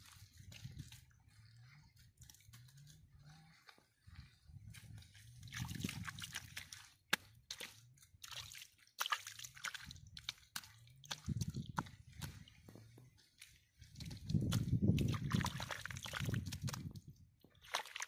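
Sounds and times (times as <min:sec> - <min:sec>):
water sloshing and splashing: 0:00.0 - 0:18.0.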